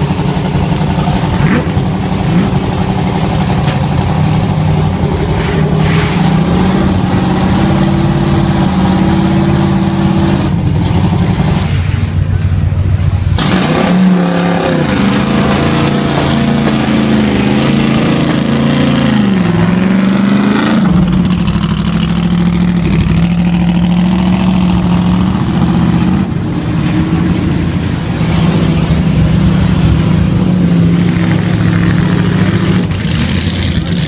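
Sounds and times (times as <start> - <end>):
deeper car engine approaching: 0.0 - 34.0
racing car engines at low revs: 0.0 - 34.0.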